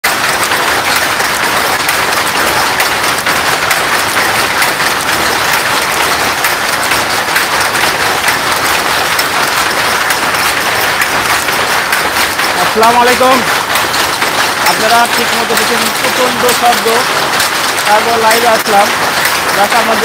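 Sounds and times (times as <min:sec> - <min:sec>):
weaving looms clattering: 0:00.0 - 0:20.0.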